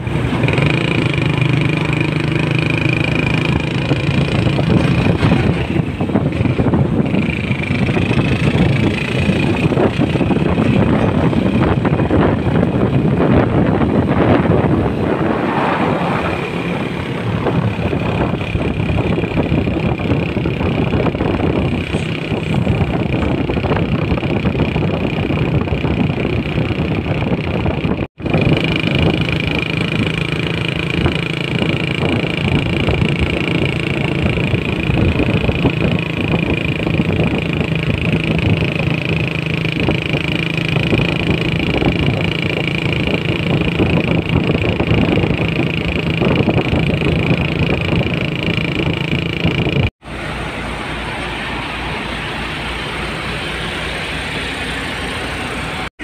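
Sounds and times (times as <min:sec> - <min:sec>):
trucks driving past: 0:00.0 - 0:25.7, 0:28.2 - 0:56.0
diesel engines running: 0:00.0 - 0:56.0
road noise: 0:00.0 - 0:56.0.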